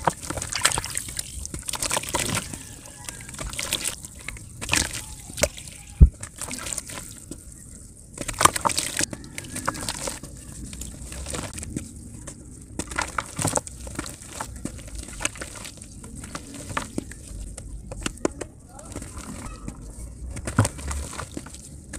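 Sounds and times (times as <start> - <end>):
mud crunching by hand: 0.0 - 21.9
mud plopping into water: 0.0 - 21.9.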